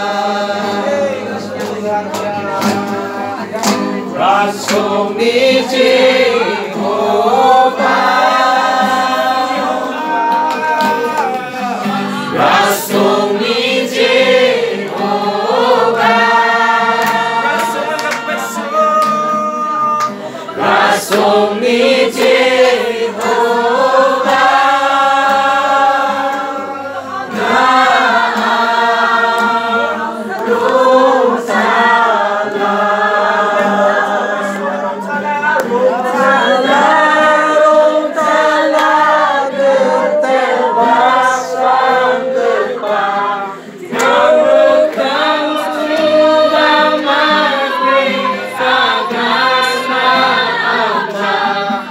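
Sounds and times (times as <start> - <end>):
group singing worship song: 0.0 - 51.9.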